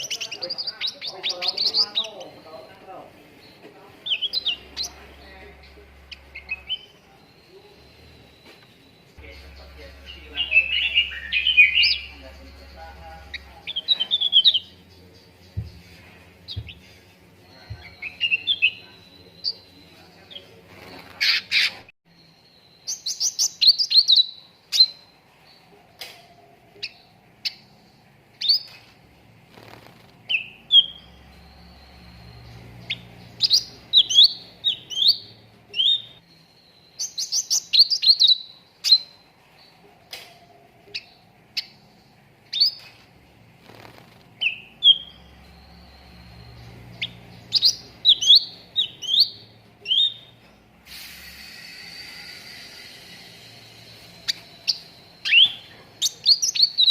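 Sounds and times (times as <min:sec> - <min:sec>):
songbird chirping and warbling: 0:00.0 - 0:56.9.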